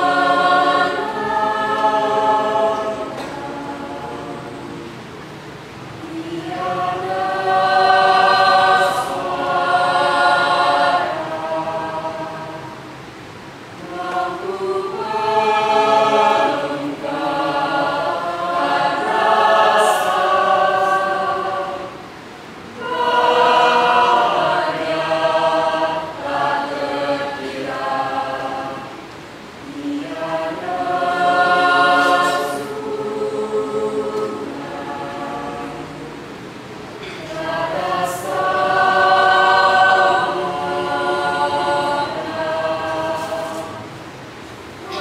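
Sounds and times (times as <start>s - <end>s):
choir singing in harmony: 0.0s - 45.0s.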